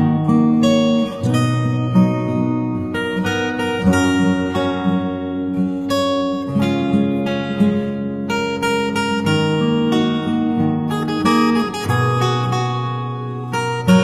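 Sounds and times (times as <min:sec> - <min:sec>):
acoustic guitar picking and strumming: 0:00.0 - 0:14.0.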